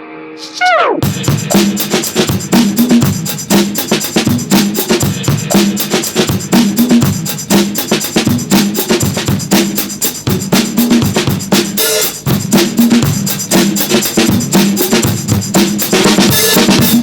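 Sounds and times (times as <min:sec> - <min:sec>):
upbeat music with drum beat: 0:00.4 - 0:17.0.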